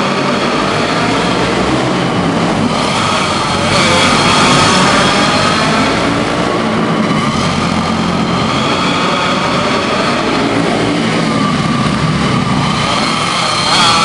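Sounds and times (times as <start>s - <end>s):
racing kart engines: 0.0s - 14.0s.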